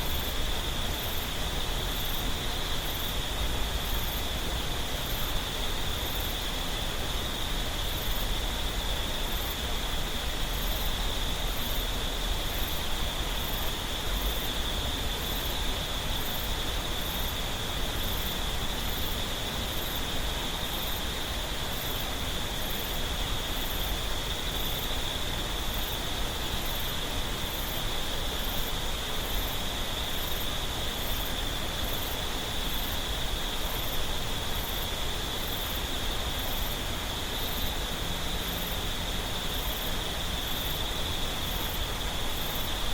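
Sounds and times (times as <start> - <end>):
faint very high insect chirp: 0.0 - 42.9
insects high drone: 0.0 - 42.9.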